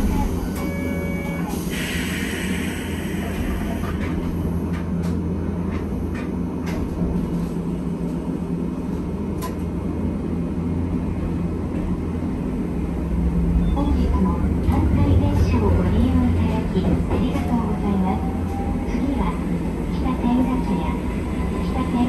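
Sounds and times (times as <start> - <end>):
streetcar hum and rumble: 0.0 - 22.0.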